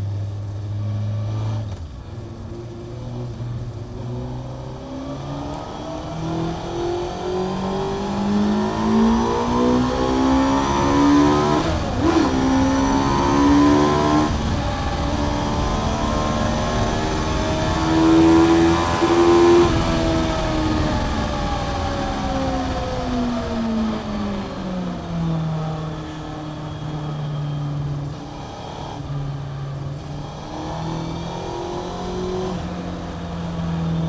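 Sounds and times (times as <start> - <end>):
motorcycle engine accelerating hard: 0.0 - 34.0.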